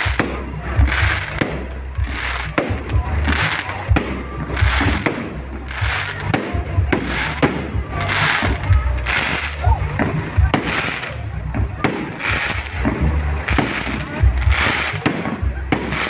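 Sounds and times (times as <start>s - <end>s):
crackling hiss of fireworks: 0.0s - 16.0s
fireworks booming: 0.0s - 16.0s.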